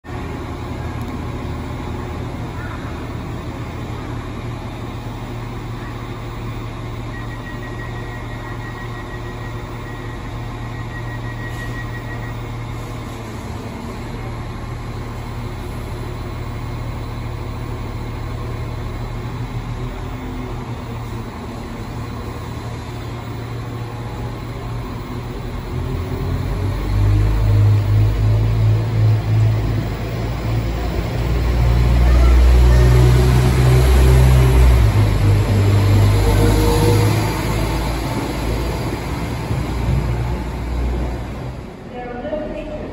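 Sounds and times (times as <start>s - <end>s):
diesel train engines idling: 0.0s - 42.9s.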